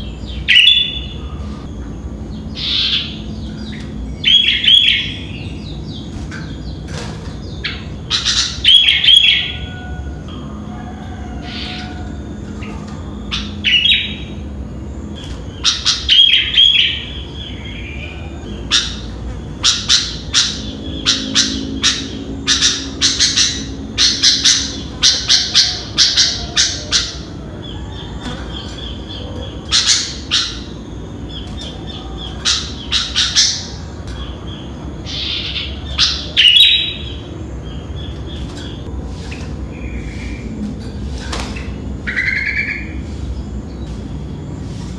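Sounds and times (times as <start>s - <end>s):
bird chirping: 0.0s - 40.6s.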